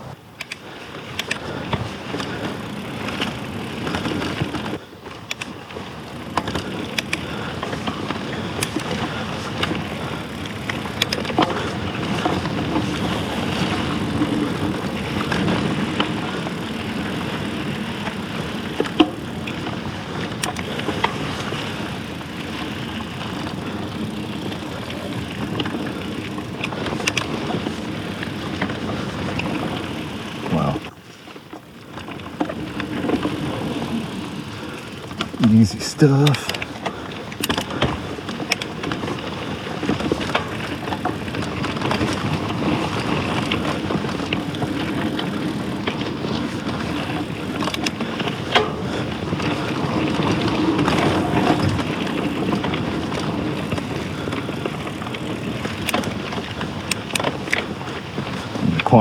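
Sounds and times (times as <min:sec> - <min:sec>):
bike rattling: 0:00.0 - 0:59.0
bike tyres rolling on dirt: 0:00.0 - 0:59.0.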